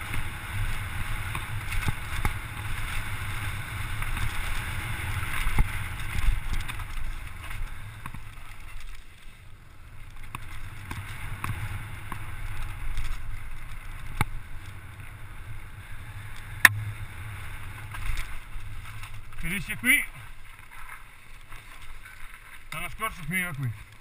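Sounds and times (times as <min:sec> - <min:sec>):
bike rattling over bumps: 0:00.0 - 0:24.0
tyres rumbling on dirt: 0:00.0 - 0:24.0.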